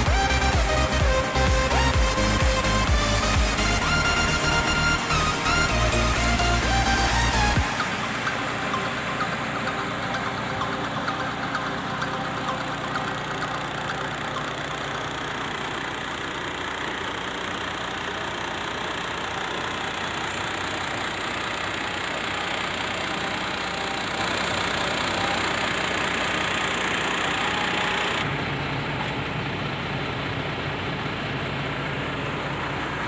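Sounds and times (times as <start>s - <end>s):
truck diesel engine idling: 0.0s - 33.0s.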